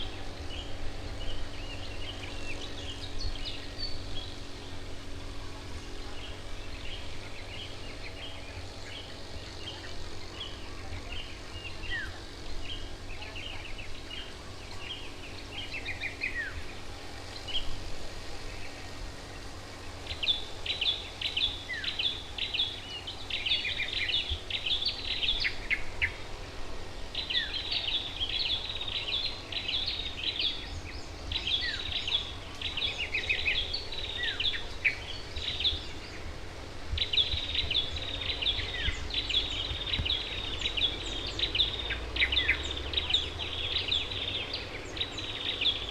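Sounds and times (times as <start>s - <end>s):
birds chirping and twittering: 0.0s - 45.9s
steady low rumble: 0.0s - 45.9s.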